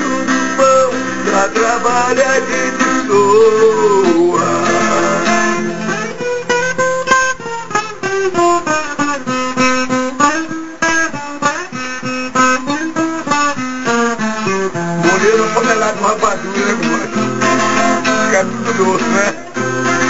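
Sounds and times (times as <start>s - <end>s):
acoustic guitar melody: 0.0s - 20.0s.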